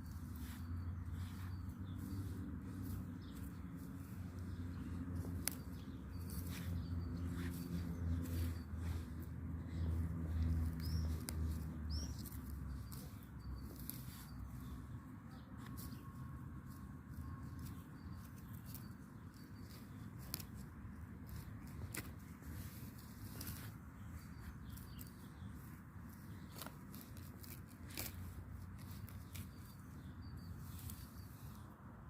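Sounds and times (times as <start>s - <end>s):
rustling: 0.0s - 31.7s
small birds chirping: 0.0s - 32.0s.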